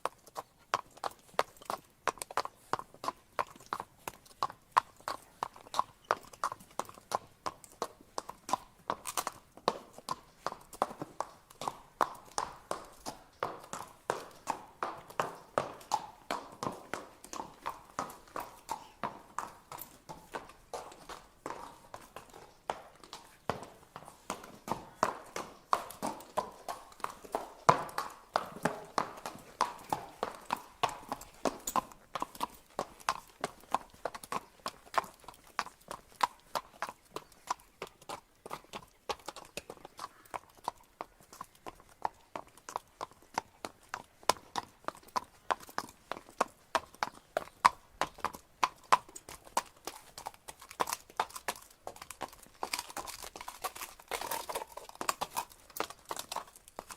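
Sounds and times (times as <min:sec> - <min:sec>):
horse hooves clip-clopping: 0:00.0 - 0:56.9.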